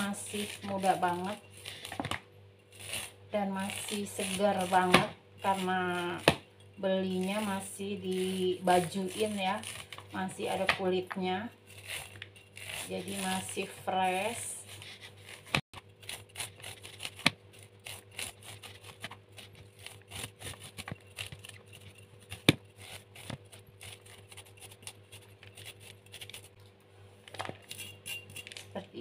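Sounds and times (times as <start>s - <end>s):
knife scraping corn cob: 0.0s - 26.6s, 27.3s - 28.8s.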